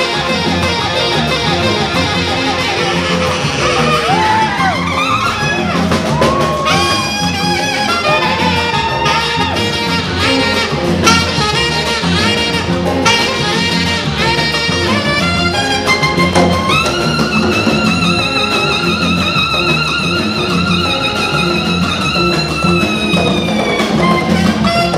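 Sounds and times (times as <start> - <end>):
live jazz band playing: 0.0 - 24.9
saxophone lead: 0.0 - 24.9.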